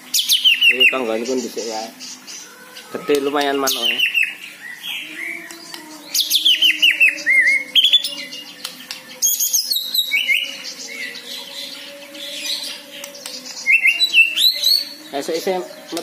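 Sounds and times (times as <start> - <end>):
shama birdsong: 0.0 - 16.0.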